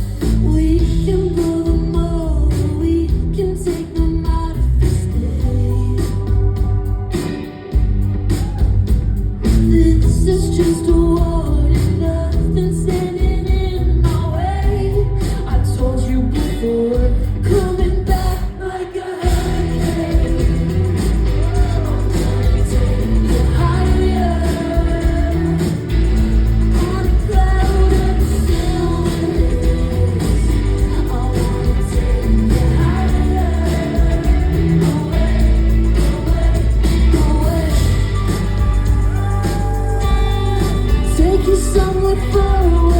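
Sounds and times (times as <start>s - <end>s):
heavy steady bass: 0.0s - 7.2s, 7.8s - 18.5s, 19.2s - 42.9s
live band playing pop song: 0.0s - 42.9s
woman singing: 0.2s - 6.8s, 9.4s - 42.9s.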